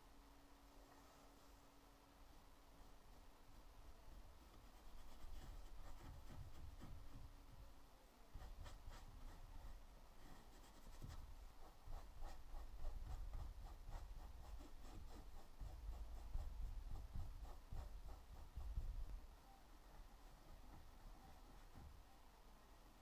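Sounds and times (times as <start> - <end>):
paintbrush strokes on canvas: 2.6 - 7.7, 8.3 - 22.2.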